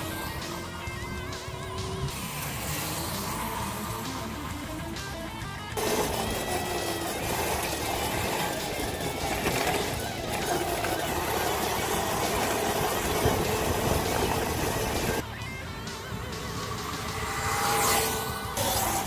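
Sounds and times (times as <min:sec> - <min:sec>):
faint music: 0:00.0 - 0:19.0
wind and road noise rushing: 0:00.0 - 0:19.0.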